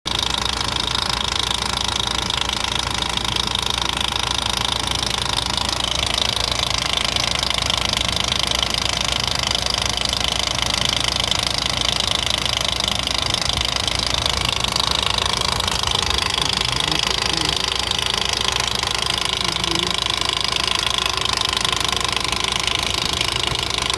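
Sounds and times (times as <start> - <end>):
fast steady engine ticking: 0.0 - 23.9
car engine running: 0.1 - 23.9.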